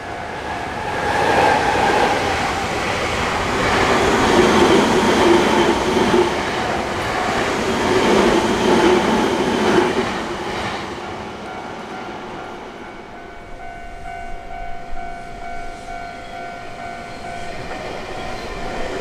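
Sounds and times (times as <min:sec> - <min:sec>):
electric train rolling past: 0:00.0 - 0:19.0.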